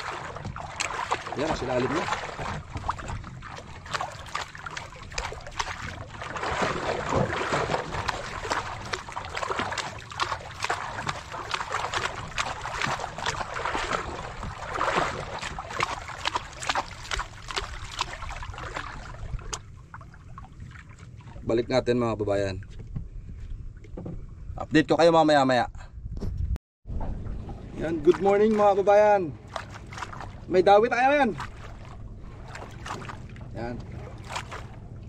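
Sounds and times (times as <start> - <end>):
small splashes and knocks: 0.0 - 21.5, 27.0 - 28.8, 29.4 - 30.5, 31.2 - 34.8
water lapping against boat hull: 0.0 - 24.8, 26.9 - 35.0.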